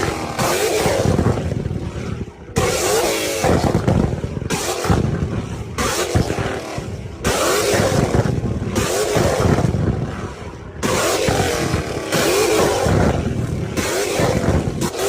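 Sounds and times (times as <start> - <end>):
sports car engines revving: 0.0 - 15.0.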